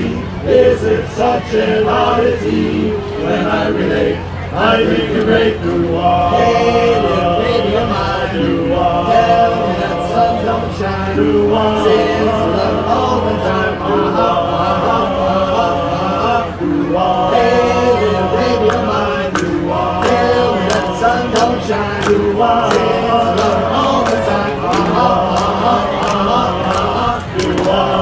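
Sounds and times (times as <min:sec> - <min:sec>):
chorus singing in close harmony: 0:00.0 - 0:28.0.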